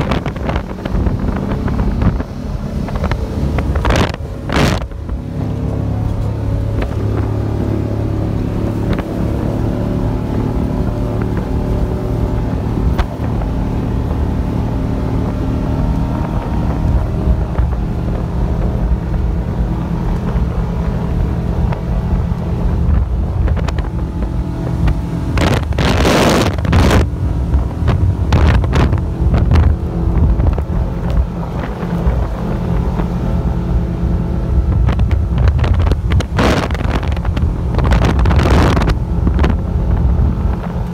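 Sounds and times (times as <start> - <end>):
hull rushing over water: 0.0 - 40.9
loud rush of noise: 0.0 - 40.9
powerboat engine running: 0.0 - 40.9
wind buffeting microphone: 0.0 - 40.9.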